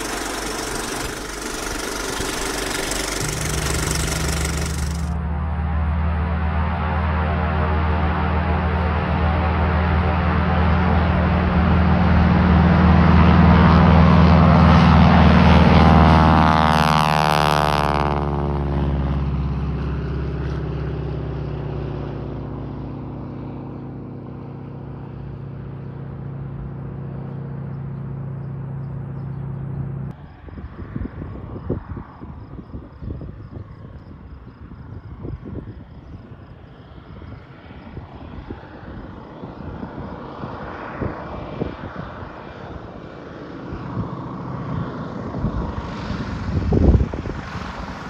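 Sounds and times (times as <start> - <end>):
propeller plane engine passing: 0.0 - 48.0.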